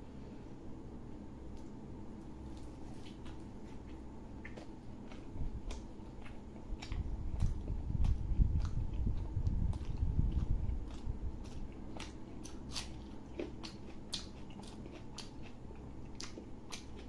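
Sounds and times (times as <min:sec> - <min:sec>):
close-up chewing: 0:01.5 - 0:17.0.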